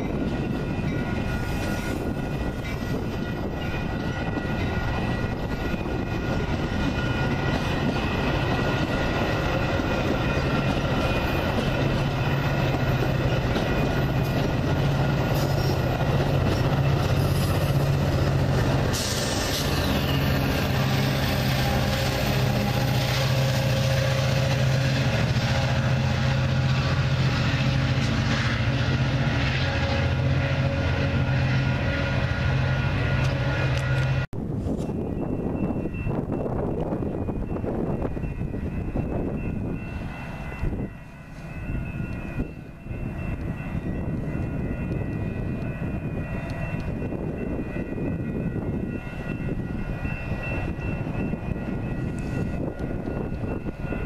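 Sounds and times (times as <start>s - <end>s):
train cars rumbling past: 0.0s - 54.0s.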